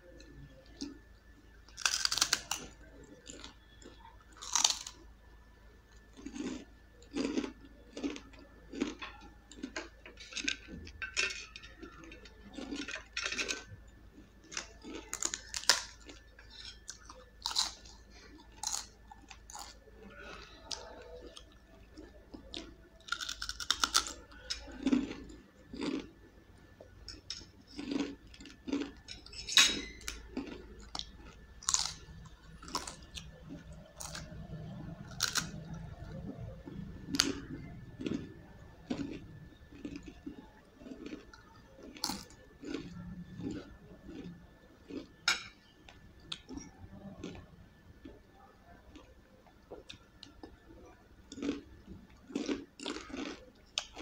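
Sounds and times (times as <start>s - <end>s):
crunching crisp snacks: 0.0s - 54.0s.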